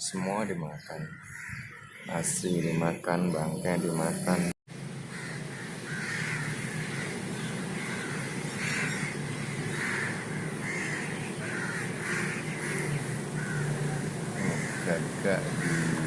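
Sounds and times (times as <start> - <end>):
crows cawing: 0.8 - 4.1, 5.0 - 16.0.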